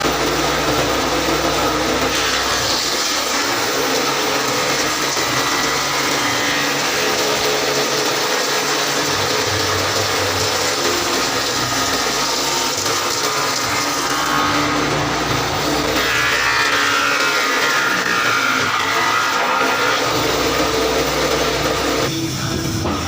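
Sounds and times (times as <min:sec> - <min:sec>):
power tool motor running: 0:00.0 - 0:22.1.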